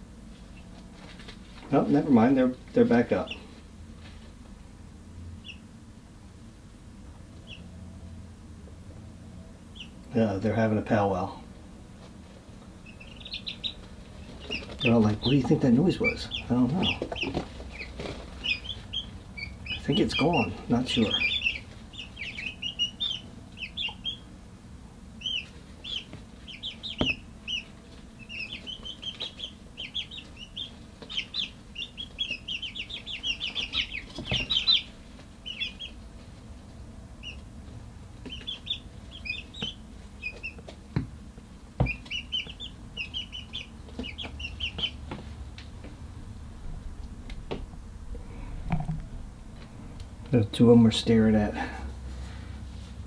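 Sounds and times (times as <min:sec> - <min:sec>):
chicks peeping and chirping: 0:00.3 - 0:04.4, 0:05.4 - 0:05.7, 0:07.4 - 0:07.7, 0:09.6 - 0:24.4, 0:25.0 - 0:53.0.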